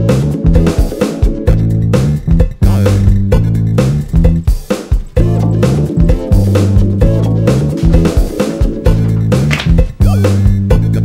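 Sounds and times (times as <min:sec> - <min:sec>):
instrumental music with bass and drums: 0:00.0 - 0:11.0.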